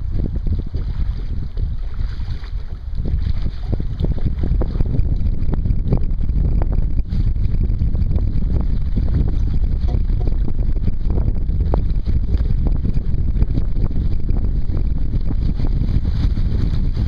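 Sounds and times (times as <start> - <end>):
water rushing along a hull: 0.0 - 17.0
wind rumbling on microphone: 0.0 - 17.0.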